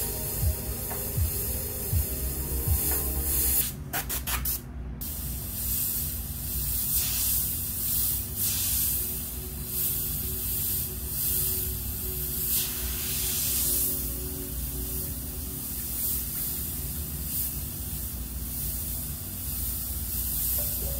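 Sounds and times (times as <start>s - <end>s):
airbrush spraying air hiss: 0.0s - 20.9s.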